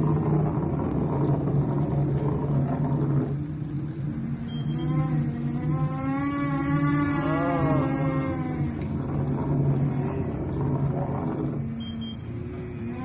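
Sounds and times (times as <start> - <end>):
ship engine rumble and hum: 0.0 - 13.0
wavering whine: 0.0 - 13.0.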